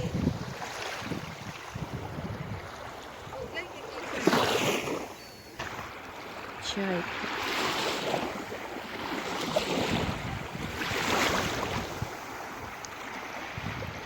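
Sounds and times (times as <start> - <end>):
wind on microphone: 0.0 - 5.9, 7.6 - 14.0
sea waves washing ashore: 0.0 - 14.0.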